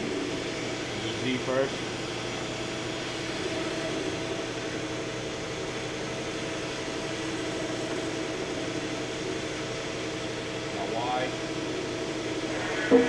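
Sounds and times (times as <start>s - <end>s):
machine tool axis humming and whining: 0.0s - 13.0s.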